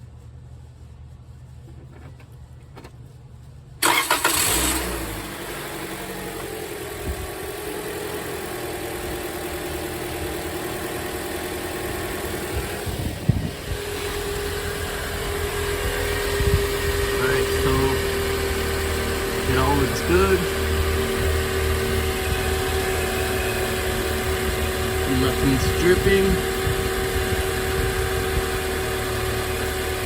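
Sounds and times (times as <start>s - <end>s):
car engine starting and idling: 0.6s - 30.0s.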